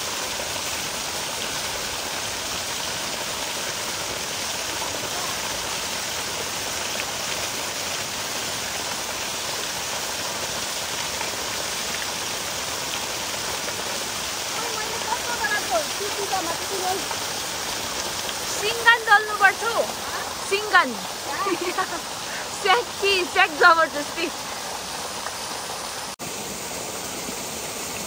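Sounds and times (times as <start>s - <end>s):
steady water hiss: 0.0s - 28.0s.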